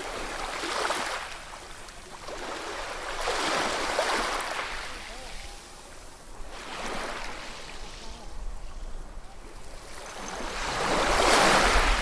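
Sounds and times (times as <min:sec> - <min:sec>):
ocean waves breaking on shore: 0:00.0 - 0:12.0.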